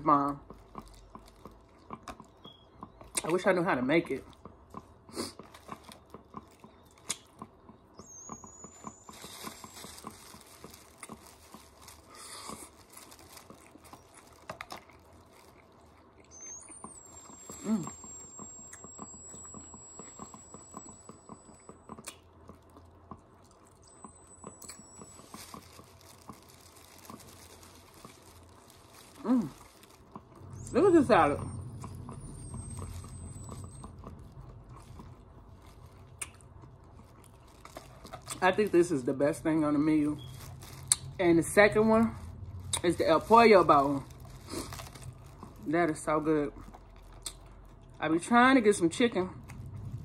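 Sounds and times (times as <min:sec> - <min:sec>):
tortilla shell crunching: 0:00.3 - 0:03.6, 0:04.2 - 0:48.2, 0:49.3 - 0:50.0
chewing and lip smacking: 0:00.3 - 0:39.0, 0:40.2 - 0:45.7, 0:46.4 - 0:48.0.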